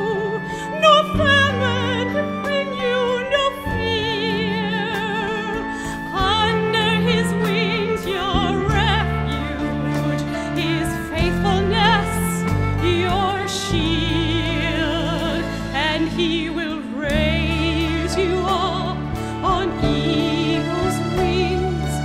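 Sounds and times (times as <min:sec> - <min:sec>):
held low chords accompaniment: 0:00.0 - 0:22.0
soprano singing with vibrato: 0:00.0 - 0:22.0.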